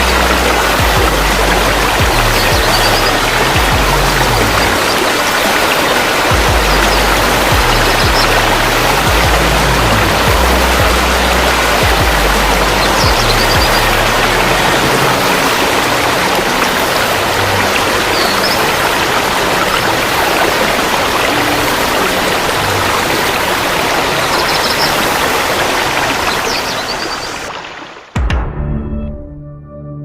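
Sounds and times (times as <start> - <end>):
rushing water: 0.0 - 28.2.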